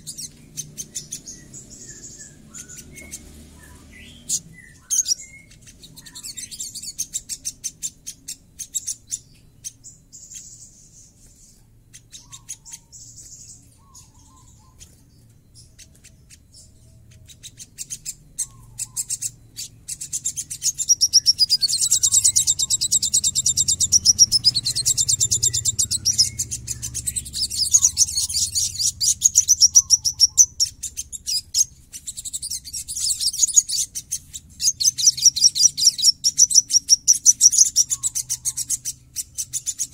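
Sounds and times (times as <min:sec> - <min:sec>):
sunbird singing fast chattering trills: 0:00.0 - 0:39.9.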